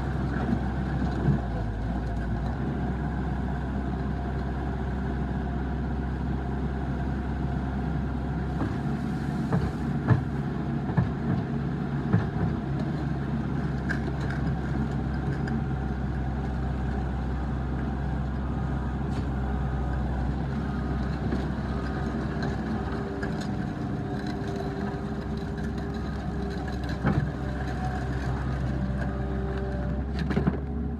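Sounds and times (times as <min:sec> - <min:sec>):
skid steer engine running: 0:00.0 - 0:30.9.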